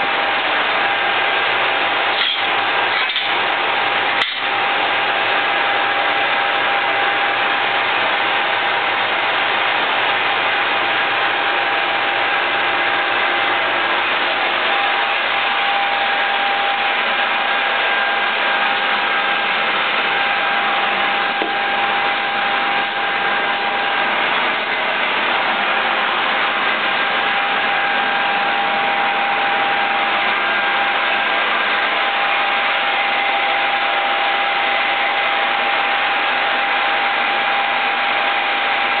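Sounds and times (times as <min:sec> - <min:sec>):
boring machine running: 0:00.0 - 0:39.0.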